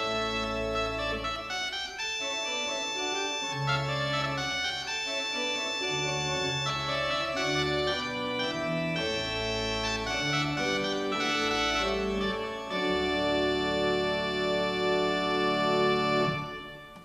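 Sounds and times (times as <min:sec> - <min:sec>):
organ playing chords: 0:00.0 - 0:17.0.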